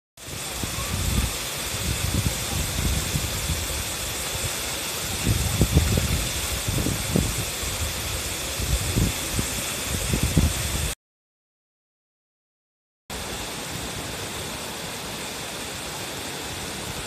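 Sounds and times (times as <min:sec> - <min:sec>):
waterfall rushing: 0:00.2 - 0:11.0, 0:13.1 - 0:17.0.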